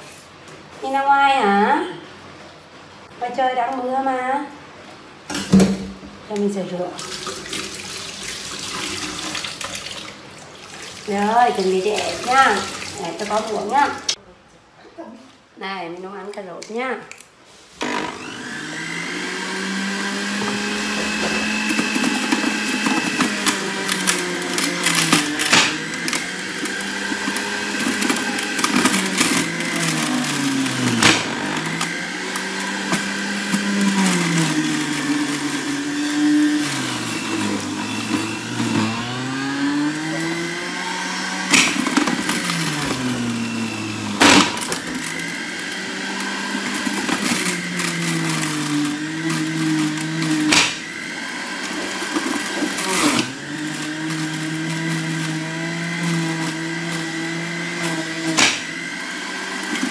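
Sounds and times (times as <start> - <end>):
electric juicer grinding carrots: 7.1 - 9.8, 11.0 - 14.2, 17.8 - 59.9.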